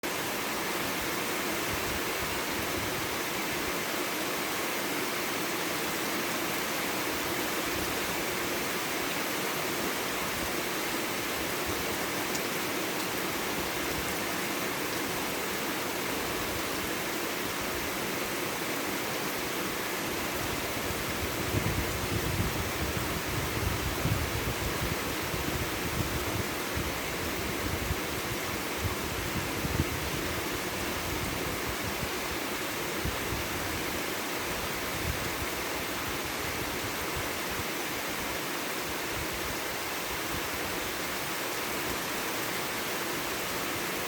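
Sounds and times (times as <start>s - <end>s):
steady rainfall: 0.0s - 44.0s.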